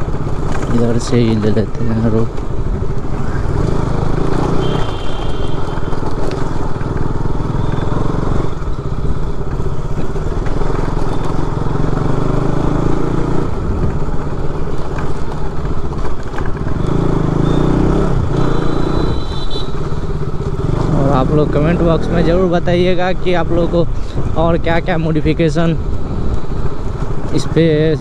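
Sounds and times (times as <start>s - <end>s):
motorbike engine running: 0.0s - 28.0s.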